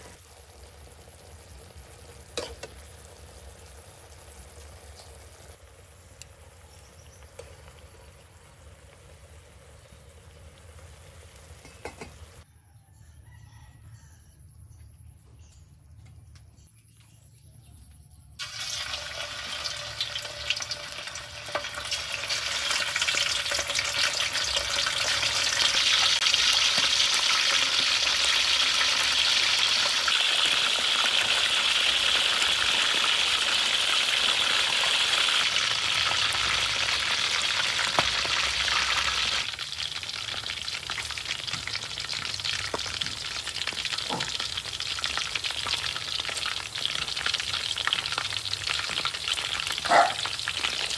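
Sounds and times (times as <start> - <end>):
oil sizzling and bubbling: 0.0 - 12.5, 18.4 - 50.9.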